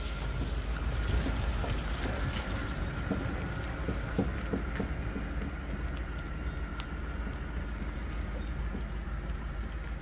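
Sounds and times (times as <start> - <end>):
grit ticking on wet driveway: 0.0 - 10.0
truck engine low rumble: 0.0 - 10.0.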